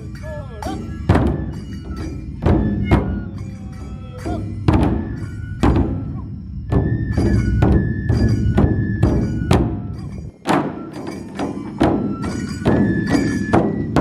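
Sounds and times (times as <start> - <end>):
bamboo flute high notes: 0.0 - 14.0
drums beaten in steady rhythm: 0.0 - 14.0.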